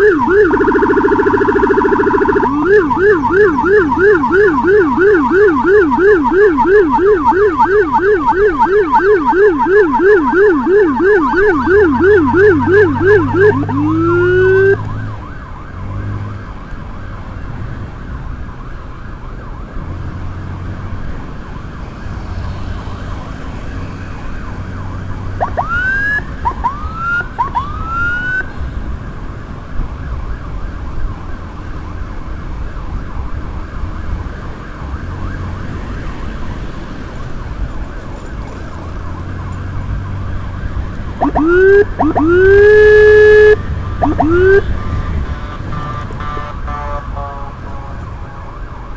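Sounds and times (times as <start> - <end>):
siren whooping and wailing: 0.0 - 20.0, 21.4 - 28.5, 29.9 - 36.4, 37.3 - 48.9
wind and road noise: 0.0 - 48.9.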